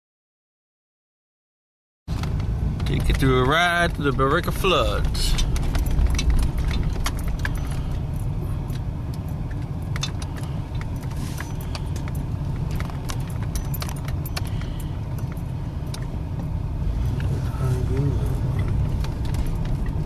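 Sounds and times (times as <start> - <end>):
car cabin rumble: 2.1 - 20.0
light clicks and jingles: 2.1 - 20.0.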